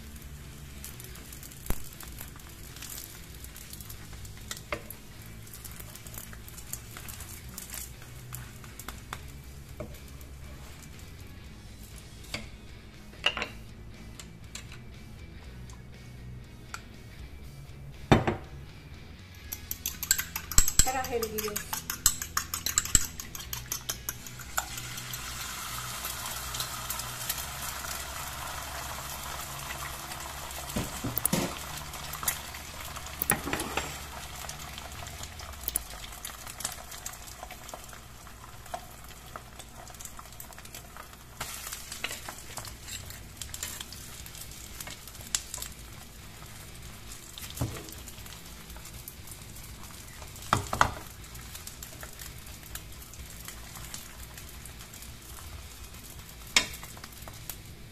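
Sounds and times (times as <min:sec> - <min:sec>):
egg sizzling in hot oil: 0:00.0 - 0:12.6, 0:19.5 - 0:57.9.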